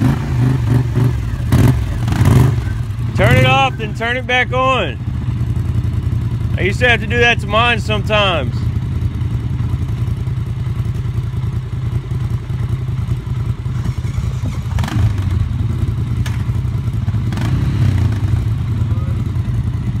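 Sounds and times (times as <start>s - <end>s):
atv engine idling: 0.0s - 20.0s.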